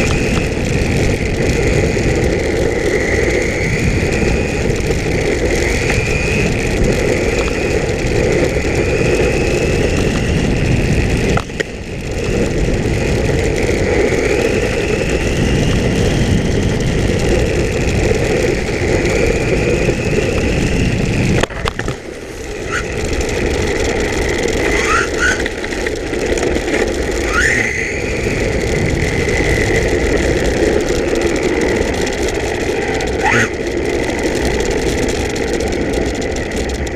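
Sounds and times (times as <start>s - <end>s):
electric motor whining: 0.0s - 36.8s
low rumbling noise: 0.0s - 36.9s.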